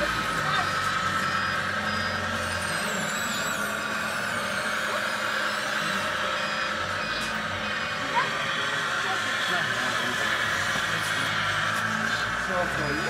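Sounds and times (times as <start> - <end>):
electric motors and gears whining: 0.0 - 13.0
higher wavering whine: 0.0 - 13.0
low engine hum: 0.0 - 13.0.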